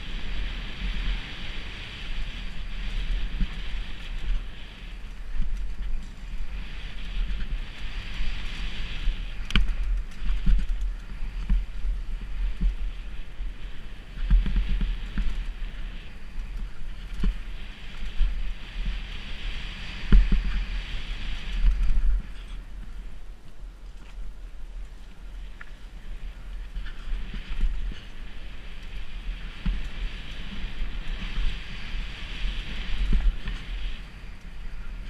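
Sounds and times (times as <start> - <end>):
bike knocking and rattling: 0.0 - 35.0
bike tyres rolling over dirt: 0.0 - 35.0
wind buffeting microphone: 0.0 - 35.0.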